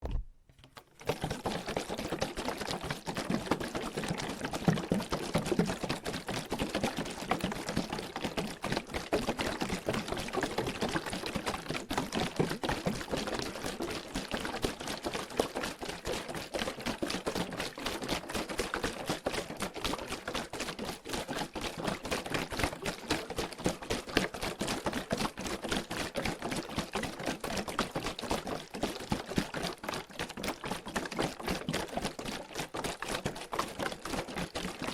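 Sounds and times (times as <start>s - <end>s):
water sloshing in plastic bottle: 0.0s - 34.9s.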